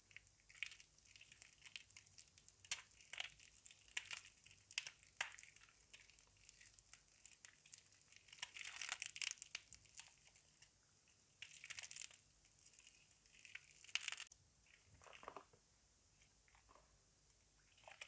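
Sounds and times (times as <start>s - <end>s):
wet soap crunching by hand: 0.0s - 15.6s.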